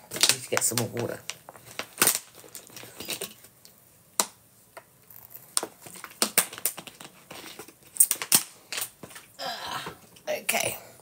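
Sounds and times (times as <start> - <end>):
plastic bottle crackling: 0.0 - 10.2.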